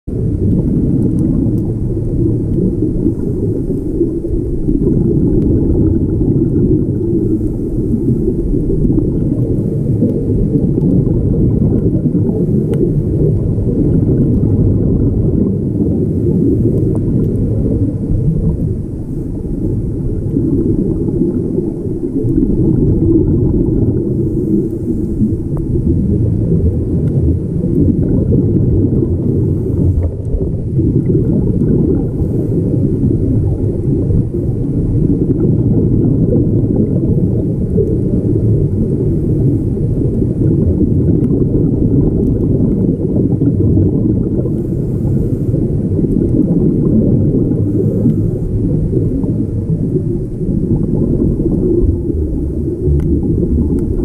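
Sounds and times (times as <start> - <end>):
muffled underwater rumble: 0.0 - 54.0
hiss of exhaled bubbles: 0.1 - 54.0.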